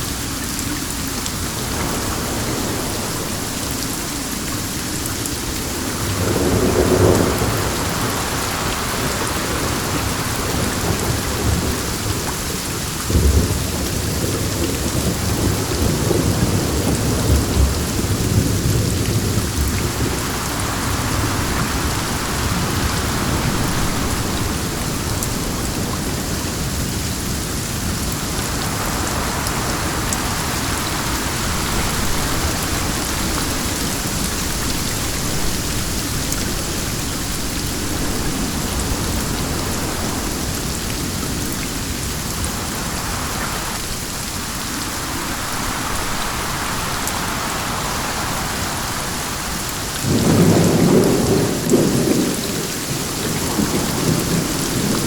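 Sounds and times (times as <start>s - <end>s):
steady rain: 0.0s - 55.0s
thunder rumbling: 1.3s - 55.0s.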